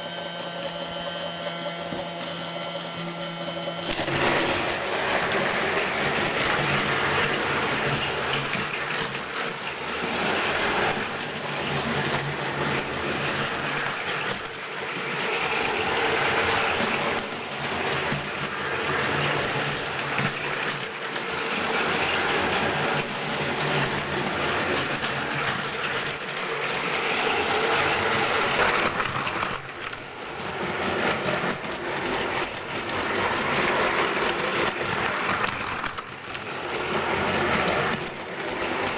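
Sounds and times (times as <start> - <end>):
toy train motor whirring: 0.0 - 38.9
plastic wheels rattling on track: 0.1 - 38.9.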